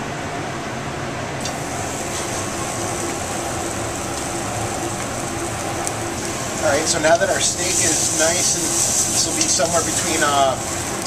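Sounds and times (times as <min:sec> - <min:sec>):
gas burners rushing: 0:01.4 - 0:11.0
steak sizzling on a grill: 0:01.4 - 0:11.0.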